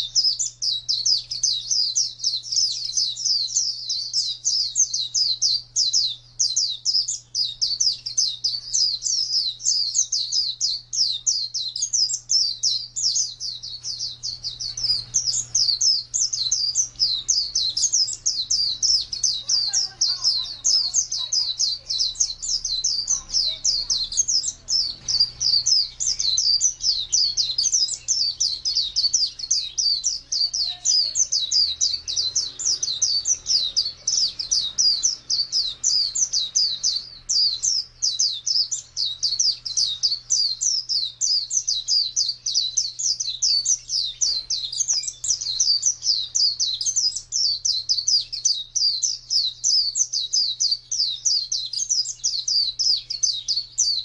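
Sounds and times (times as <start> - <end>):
bird twittering song: 0.0 - 54.0
faint low hum: 0.0 - 54.0.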